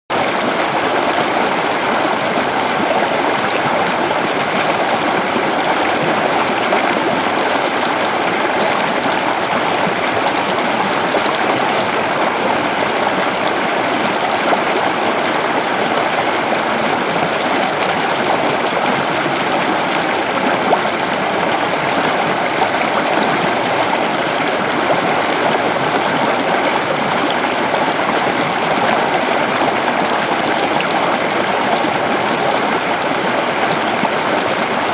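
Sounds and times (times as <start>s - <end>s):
flowing water rushing: 0.1s - 34.9s.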